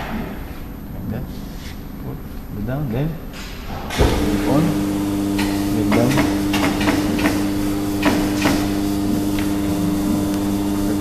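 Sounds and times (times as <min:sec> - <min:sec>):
punching machine humming: 0:00.0 - 0:11.0.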